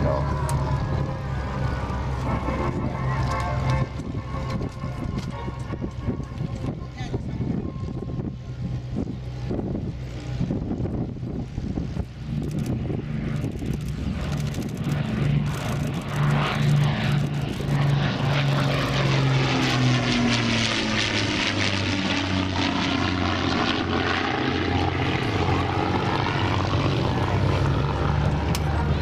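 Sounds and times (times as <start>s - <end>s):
propeller aircraft engines flying past: 0.0s - 29.0s.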